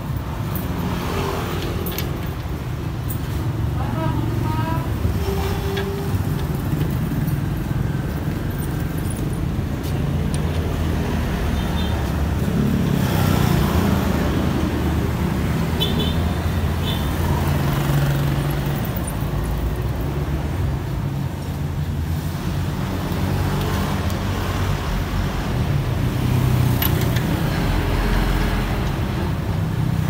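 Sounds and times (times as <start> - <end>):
rumble of vehicle engines: 0.0 - 30.0.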